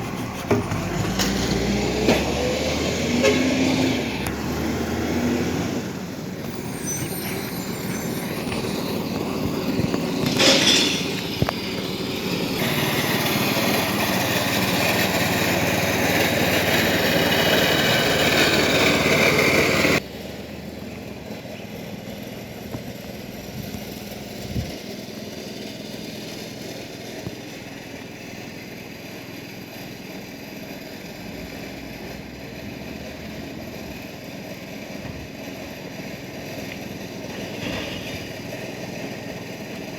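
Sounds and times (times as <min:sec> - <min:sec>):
garbage truck running: 0:00.0 - 0:39.9.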